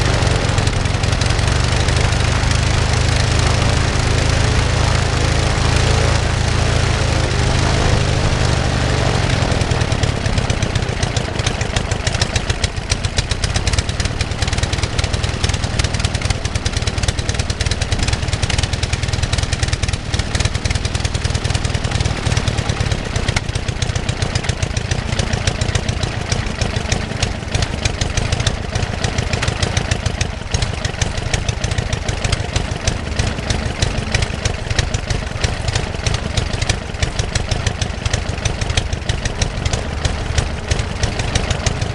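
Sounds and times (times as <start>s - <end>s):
small aircraft engine running: 0.0s - 41.9s.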